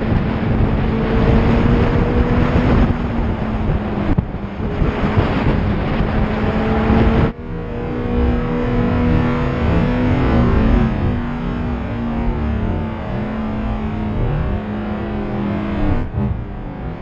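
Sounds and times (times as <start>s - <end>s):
loud rushing wind: 0.0s - 17.0s
steady low drone: 0.0s - 17.0s
vehicle noise: 0.0s - 17.0s.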